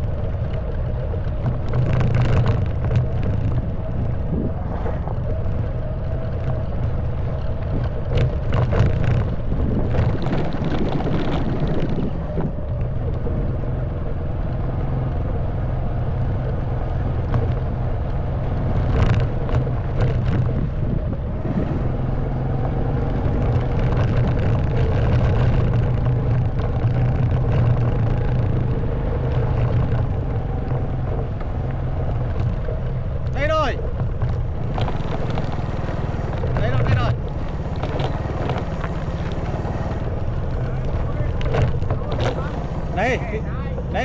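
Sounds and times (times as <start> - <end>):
motorbike engine running: 0.0 - 44.0.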